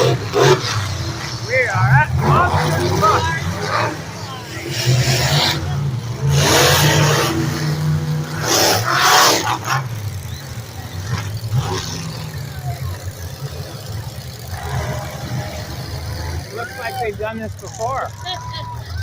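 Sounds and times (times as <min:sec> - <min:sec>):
monster truck engines revving: 0:00.0 - 0:19.0.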